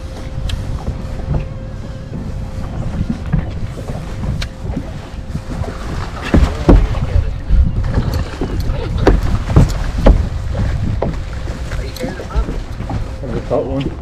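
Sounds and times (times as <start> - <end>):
faint steady hum: 0.0 - 14.0
wind buffeting microphone: 0.0 - 14.0
heavy thumps: 0.1 - 13.2.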